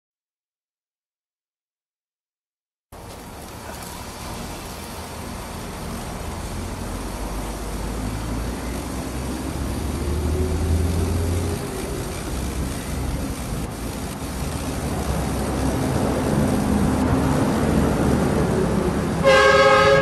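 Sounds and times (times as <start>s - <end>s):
steady outdoor noise: 2.9s - 20.0s
passing vehicle rumble: 3.0s - 20.0s.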